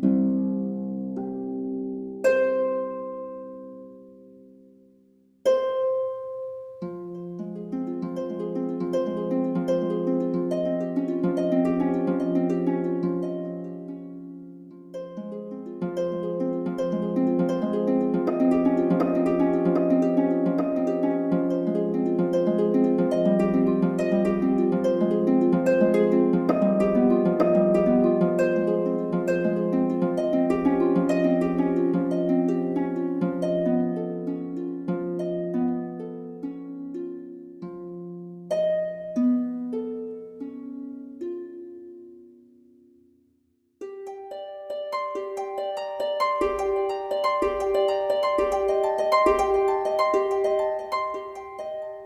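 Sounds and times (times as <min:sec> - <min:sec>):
plucked string instrumental music: 0:00.0 - 0:43.1, 0:43.8 - 0:52.0.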